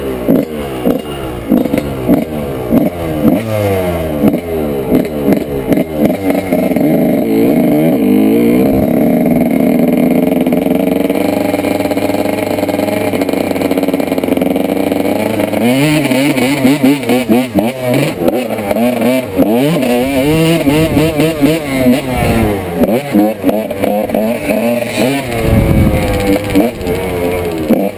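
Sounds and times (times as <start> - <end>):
two-stroke motorcycle engine revving: 0.0 - 27.9.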